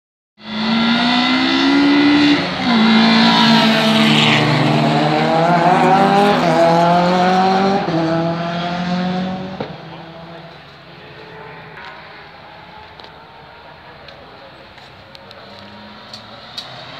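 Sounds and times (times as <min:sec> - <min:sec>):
racing car engines revving: 0:00.4 - 0:16.9.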